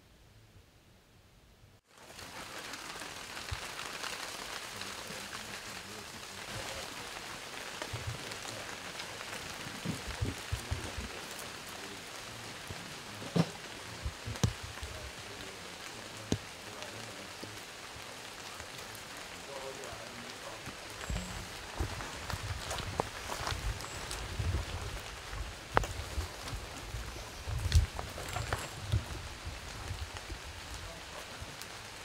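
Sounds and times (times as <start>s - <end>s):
steady outdoor hiss: 0.0s - 32.0s.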